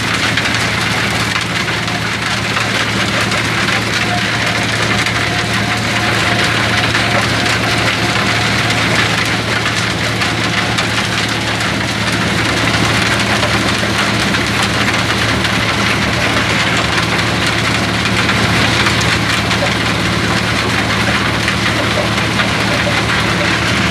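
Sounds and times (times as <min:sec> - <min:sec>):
rock crackling and rattling: 0:00.0 - 0:23.9
stone crusher drive drone: 0:00.0 - 0:23.9.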